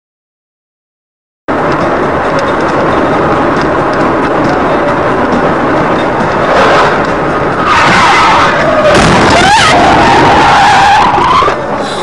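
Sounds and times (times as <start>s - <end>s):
car tyres screeching: 1.5s - 12.0s
road noise inside car: 1.5s - 12.0s.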